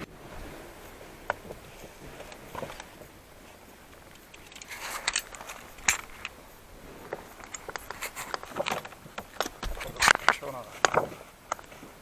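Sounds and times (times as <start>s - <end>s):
short scraping knocks: 0.0s - 11.9s
sharp handling clicks: 0.9s - 12.0s.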